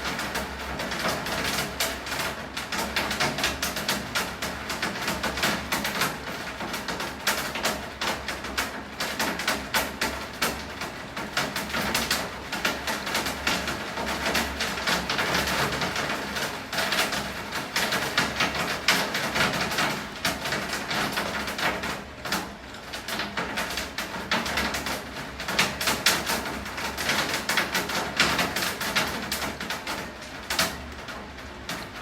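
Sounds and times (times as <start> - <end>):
rain drops tapping hard surface: 0.0 - 32.0.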